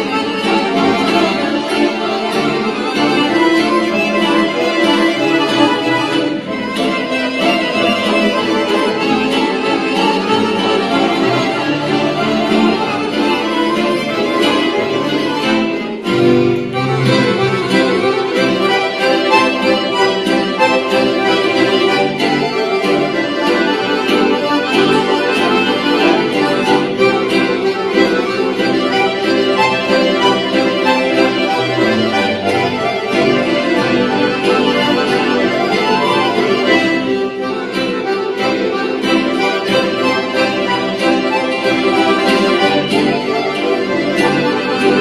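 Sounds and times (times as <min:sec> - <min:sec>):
accordions playing: 0:00.0 - 0:45.0
acoustic guitar accompaniment: 0:00.0 - 0:45.0.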